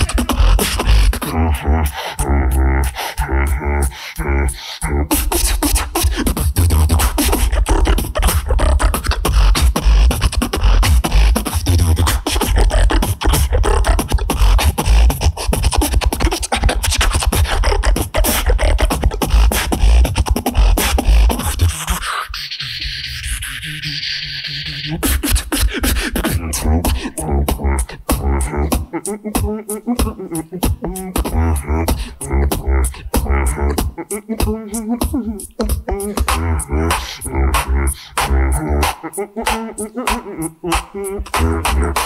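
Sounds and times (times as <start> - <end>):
person beatboxing: 0.0 - 42.0.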